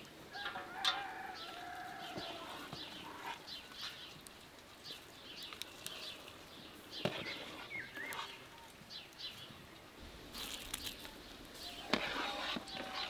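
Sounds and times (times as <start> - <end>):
small birds chirping: 1.1 - 13.0.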